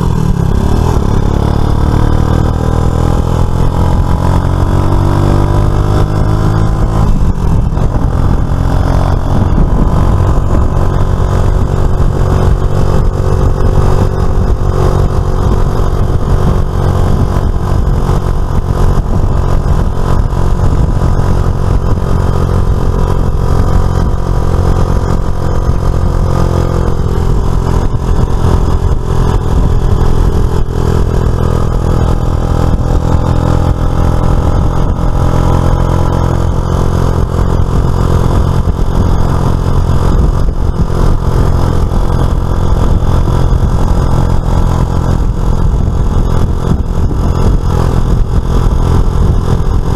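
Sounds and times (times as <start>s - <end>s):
road and wind noise: 0.0s - 49.9s
scooter engine accelerating: 0.0s - 49.9s.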